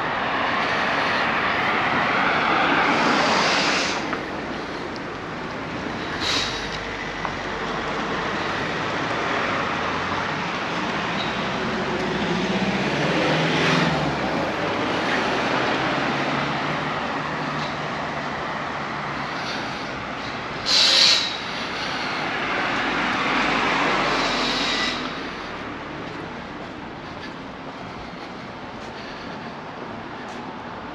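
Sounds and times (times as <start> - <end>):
road traffic passing: 0.0 - 30.9.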